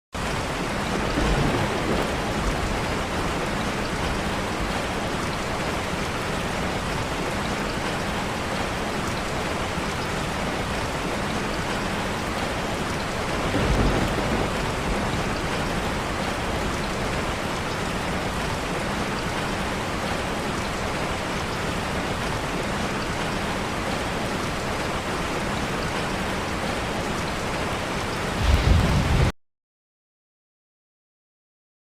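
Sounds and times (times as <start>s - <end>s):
rain pattering on a roof: 0.2s - 29.3s.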